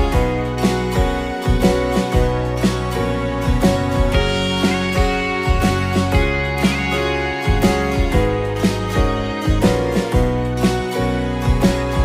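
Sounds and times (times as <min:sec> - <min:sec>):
bass line: 0:00.0 - 0:12.0
plucked acoustic guitar: 0:00.0 - 0:12.0.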